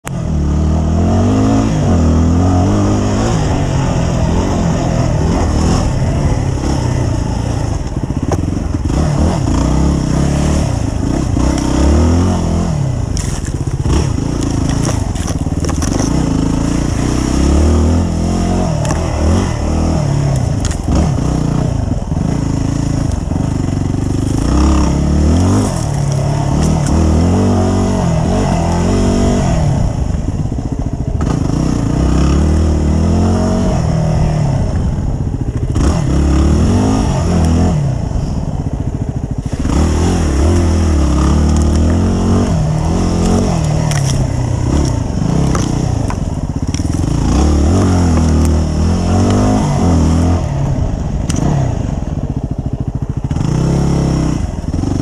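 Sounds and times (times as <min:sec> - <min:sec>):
dirt bike engine revving: 0:00.1 - 0:55.0.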